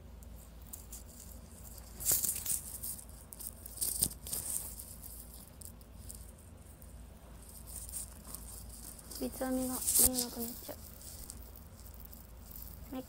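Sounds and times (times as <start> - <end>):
fabric rustling: 0.6 - 13.0.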